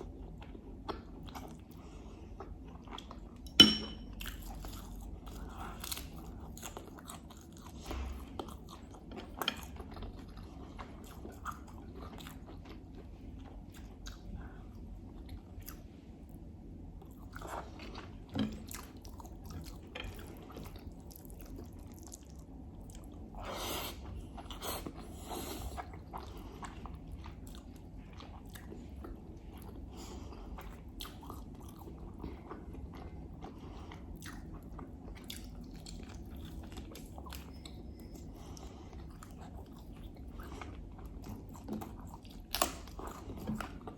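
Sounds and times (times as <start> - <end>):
person chewing food: 0.0 - 43.9.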